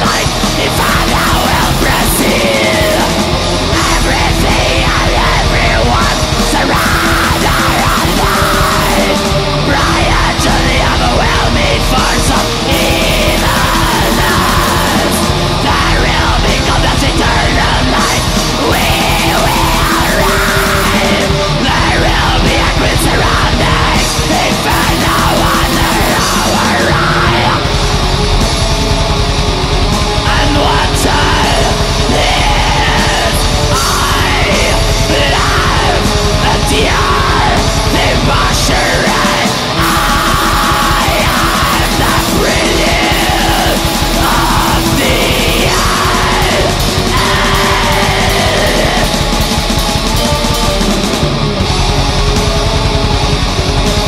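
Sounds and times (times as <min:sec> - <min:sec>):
black metal music: 0:00.0 - 0:54.0
harsh vocals: 0:00.0 - 0:54.0.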